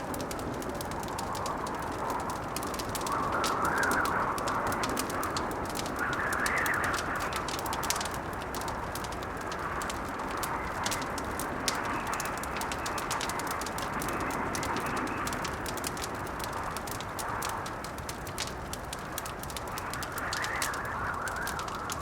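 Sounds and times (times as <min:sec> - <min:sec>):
blizzard wind blowing: 0:00.0 - 0:22.0
wood fire crackling: 0:00.0 - 0:22.0.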